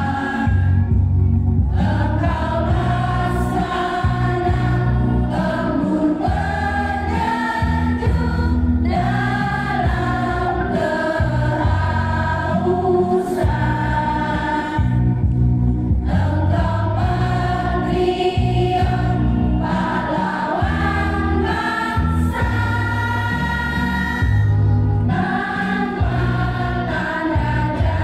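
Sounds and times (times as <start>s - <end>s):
choir singing slow song: 0.0s - 28.0s.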